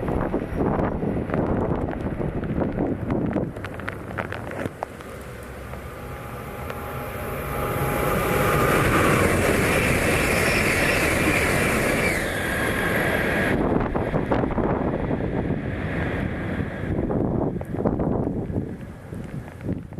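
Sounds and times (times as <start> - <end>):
bullet train rushing past: 0.0 - 4.1, 4.7 - 19.1
heavy rain: 1.1 - 19.9.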